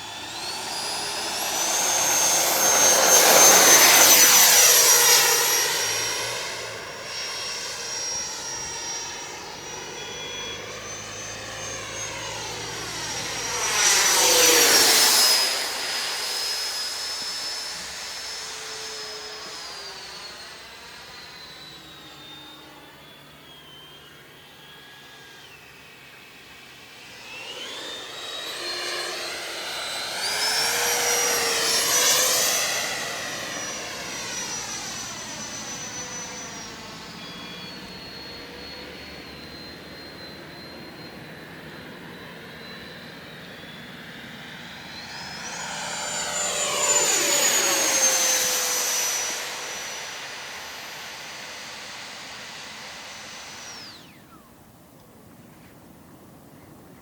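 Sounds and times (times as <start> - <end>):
model jet fan whining: 0.0 - 57.0.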